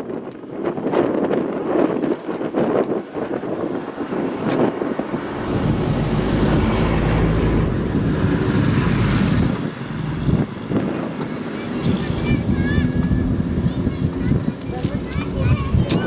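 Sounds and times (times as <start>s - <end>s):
road hiss: 1.4s - 16.0s
motor vehicle rumble: 2.8s - 16.0s.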